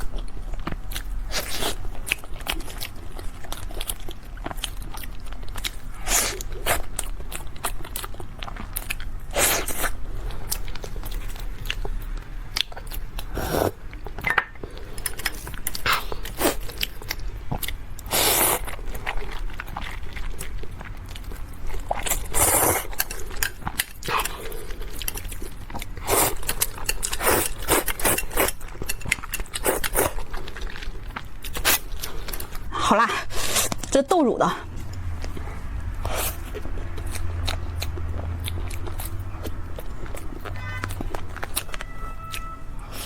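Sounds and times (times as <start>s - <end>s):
close chewing and biting: 0.0s - 34.0s, 34.6s - 43.0s.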